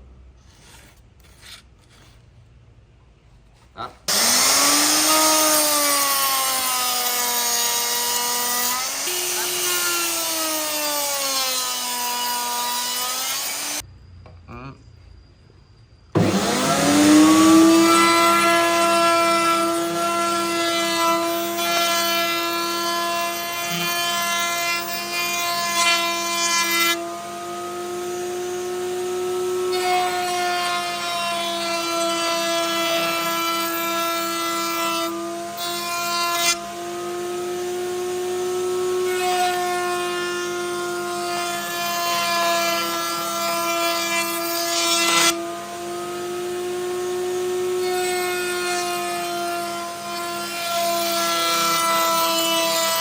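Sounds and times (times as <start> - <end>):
woodworking machine whining: 4.1 - 13.8, 16.2 - 53.0.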